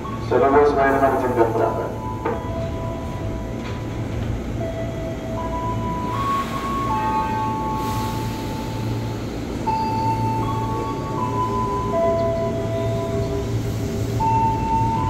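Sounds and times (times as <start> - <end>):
electric train equipment hum: 0.0 - 15.0.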